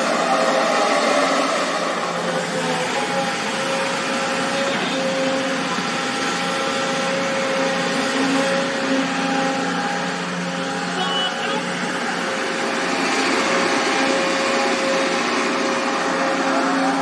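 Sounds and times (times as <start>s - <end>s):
excavator engine whirring: 0.0s - 17.0s.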